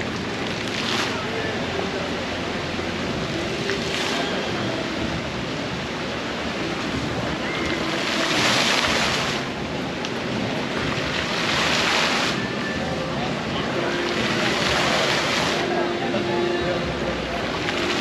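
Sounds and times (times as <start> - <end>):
fountain jets splashing: 0.0 - 18.0.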